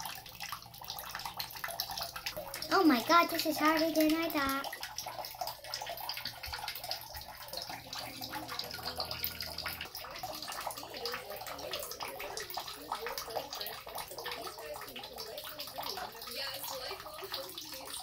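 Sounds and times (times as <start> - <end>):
bathwater sloshing and splashing: 0.0 - 18.0
toy splashing through water: 0.0 - 18.0.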